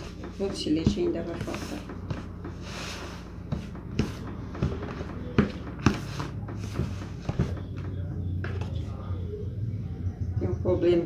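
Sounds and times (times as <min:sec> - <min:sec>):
spoon scraping dough in bowl: 0:00.0 - 0:08.9.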